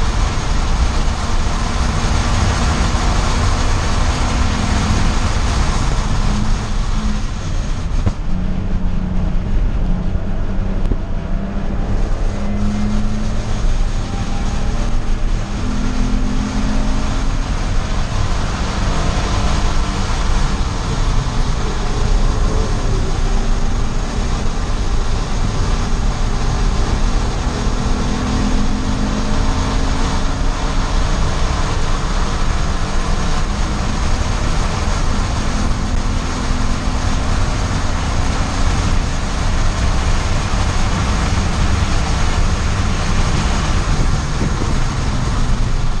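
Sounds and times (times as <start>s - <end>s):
race car engine: 0.0s - 46.0s
road and wind noise: 0.0s - 46.0s.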